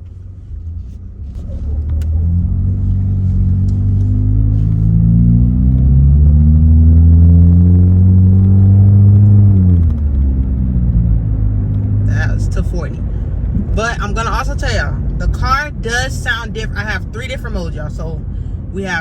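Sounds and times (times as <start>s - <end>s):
car exhaust accelerating: 0.0s - 19.0s.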